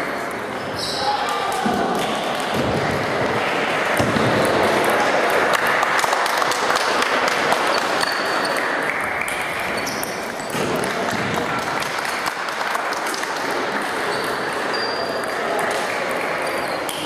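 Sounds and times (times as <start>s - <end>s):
background murmur: 0.0s - 17.0s.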